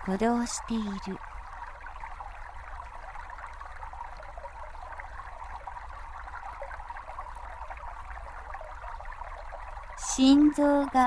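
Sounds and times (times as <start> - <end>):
brook babbling and trickling: 0.0 - 11.0.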